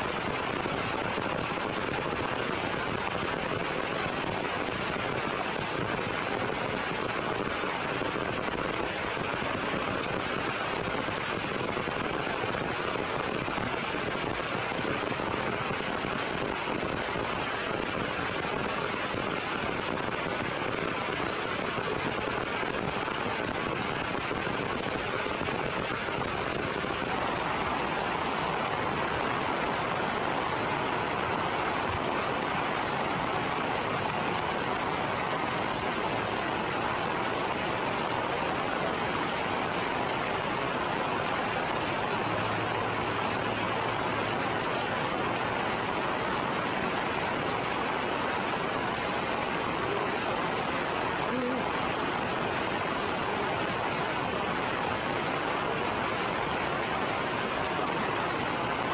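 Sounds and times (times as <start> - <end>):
heavy rain on leaves: 0.0 - 58.9.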